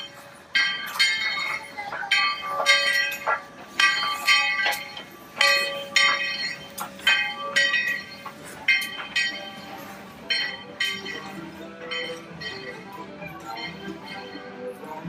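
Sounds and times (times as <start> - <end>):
bell ringing: 0.0 - 15.0.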